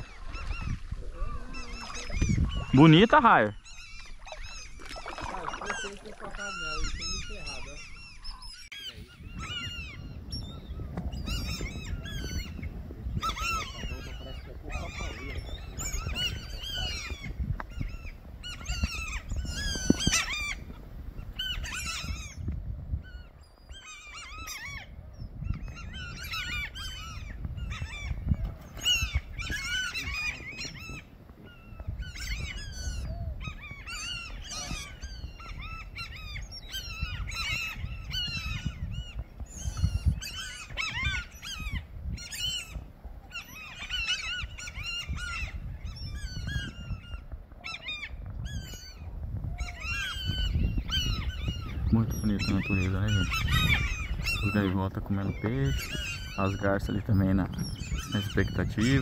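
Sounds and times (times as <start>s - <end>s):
terns calling harshly: 0.0s - 20.7s, 25.7s - 59.0s
wind rumble on microphone: 0.0s - 59.0s.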